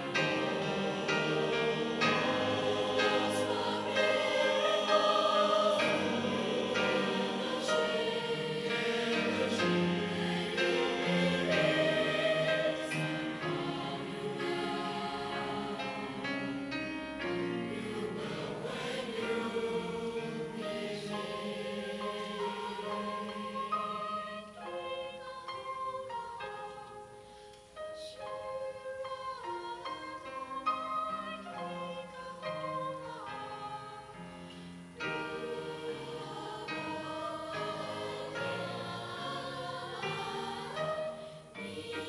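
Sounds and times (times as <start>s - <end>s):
mixed choir singing: 0.0s - 27.3s, 28.0s - 42.0s.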